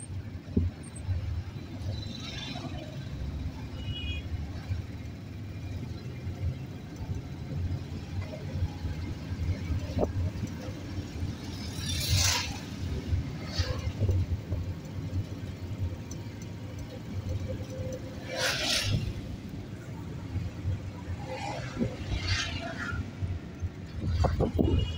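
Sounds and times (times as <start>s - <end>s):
street traffic rumble: 0.0s - 24.9s.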